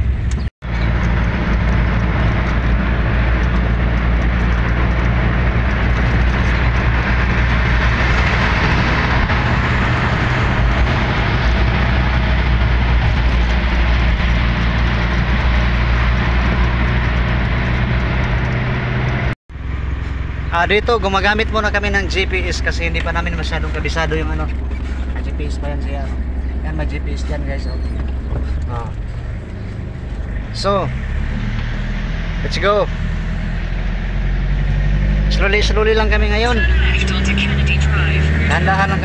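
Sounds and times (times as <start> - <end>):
tyre and road noise: 0.0 - 39.0
van engine drone: 0.0 - 39.0.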